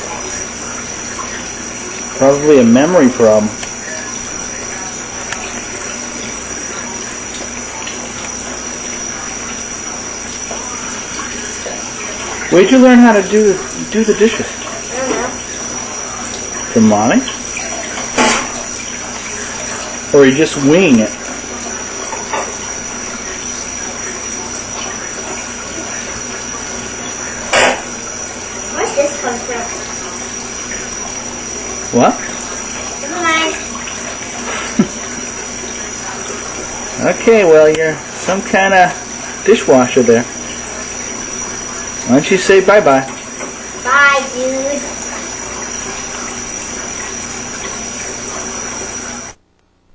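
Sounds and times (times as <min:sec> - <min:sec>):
dishes being washed: 0:00.0 - 0:49.3
tap water running into sink: 0:00.0 - 0:49.4.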